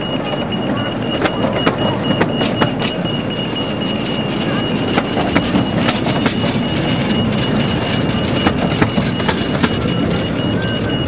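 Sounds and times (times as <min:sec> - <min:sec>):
high-pitched tone: 0:00.0 - 0:11.0
train wheels rumbling: 0:00.0 - 0:11.0
wheels clicking over rail joints: 0:00.0 - 0:11.0.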